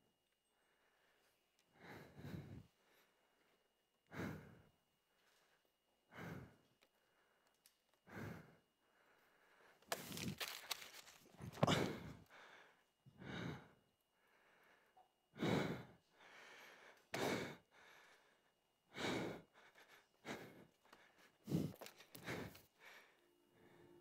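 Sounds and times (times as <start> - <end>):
person breathing heavily: 0.6 - 24.0.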